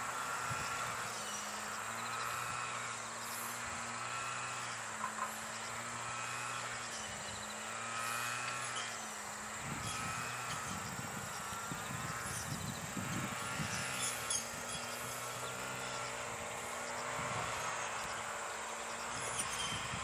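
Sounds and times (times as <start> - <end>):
distant diesel railcar engine humming: 0.0 - 20.0
insects chirping: 0.0 - 20.0.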